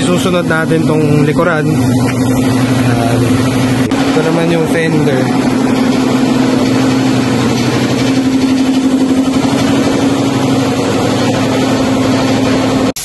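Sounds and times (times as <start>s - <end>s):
motor humming with hiss: 0.0s - 13.0s.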